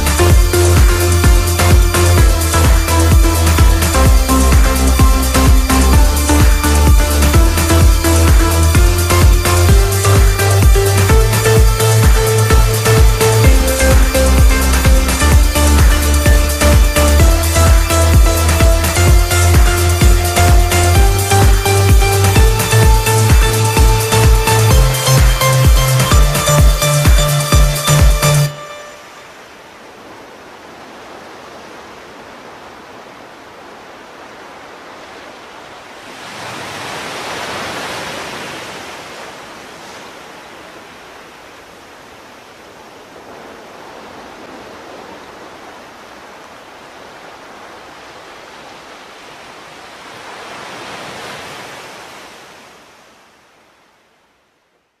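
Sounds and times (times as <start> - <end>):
waves breaking: 0.0 - 54.4
ocean surf: 0.0 - 54.7.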